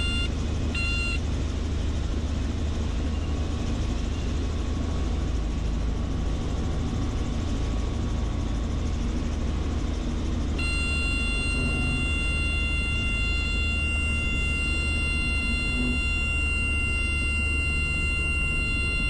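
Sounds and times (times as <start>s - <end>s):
helicopter engine and rotor: 0.0s - 19.0s
high multi-tone whine: 0.0s - 19.0s.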